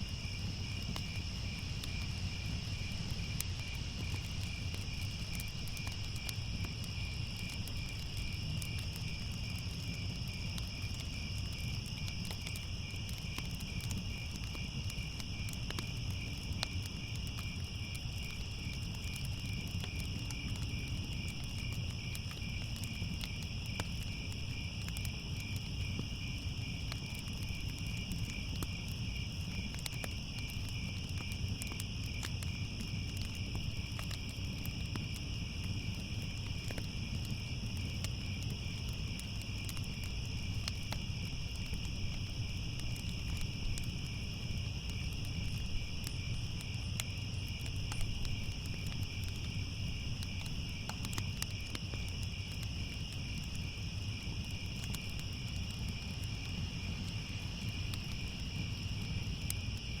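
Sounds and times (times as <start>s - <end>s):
crickets chirping: 0.0s - 60.0s
wood fire crackling: 0.0s - 60.0s.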